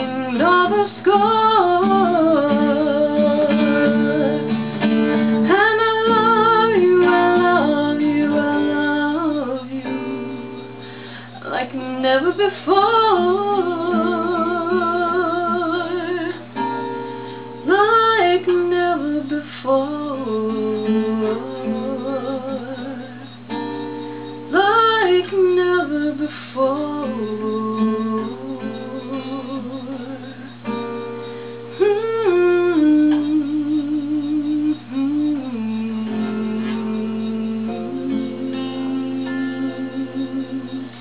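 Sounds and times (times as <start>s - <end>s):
woman singing with vibrato: 0.0s - 16.8s, 17.4s - 31.0s, 31.7s - 41.0s
acoustic guitar playing chords: 0.0s - 41.0s.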